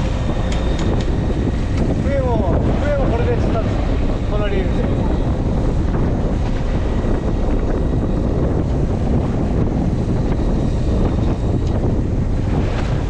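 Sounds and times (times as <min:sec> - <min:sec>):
water and waves: 0:00.0 - 0:13.0
wind buffeting microphone: 0:00.0 - 0:13.0.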